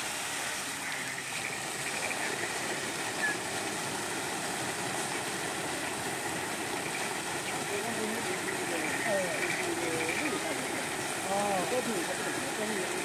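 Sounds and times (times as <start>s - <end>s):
fountain jets splashing: 0.0s - 13.0s.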